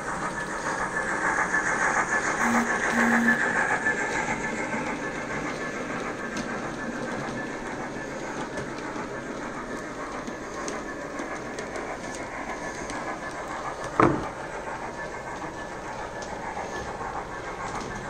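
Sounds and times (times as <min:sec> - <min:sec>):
model train wheels rattling on rails: 0:00.0 - 0:18.0.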